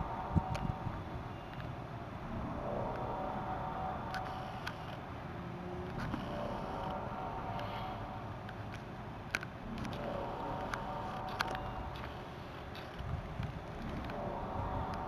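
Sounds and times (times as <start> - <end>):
low moaning drone: 0.0 - 15.0
steady rumble: 0.0 - 15.0.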